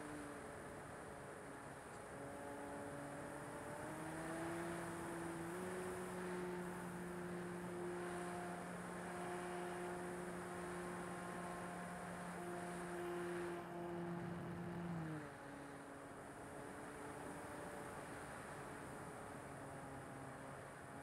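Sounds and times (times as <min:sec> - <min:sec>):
model plane motor hum: 0:00.0 - 0:21.0.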